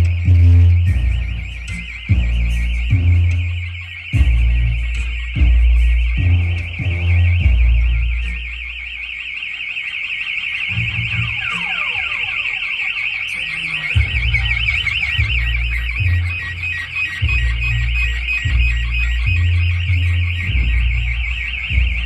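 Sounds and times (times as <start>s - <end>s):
loud electronic music with heavy bass: 0.0s - 22.0s.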